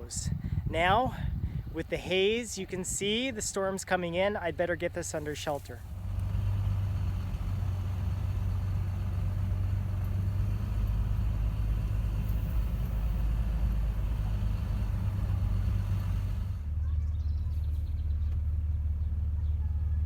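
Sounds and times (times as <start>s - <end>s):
vehicle engine low rumble: 0.0s - 20.0s.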